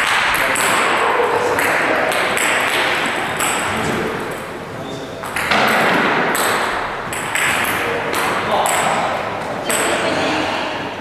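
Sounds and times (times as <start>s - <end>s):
ping pong ball hitting bats and table: 0.0s - 4.5s, 5.2s - 10.8s.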